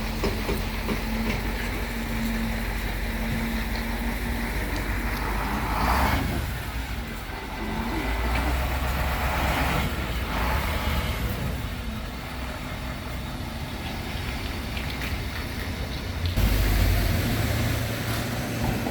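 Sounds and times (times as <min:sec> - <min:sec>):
vehicle engines rumbling: 0:00.0 - 0:18.9.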